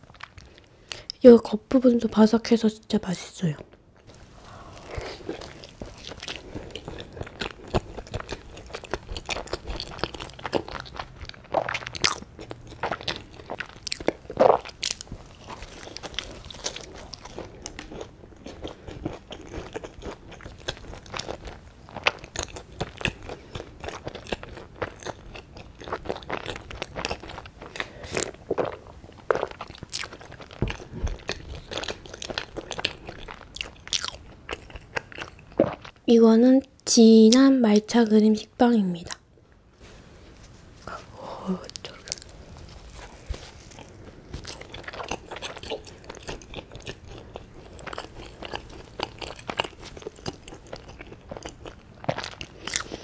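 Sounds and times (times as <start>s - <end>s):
crunchy bread chewing: 4.0s - 36.0s, 41.7s - 53.0s.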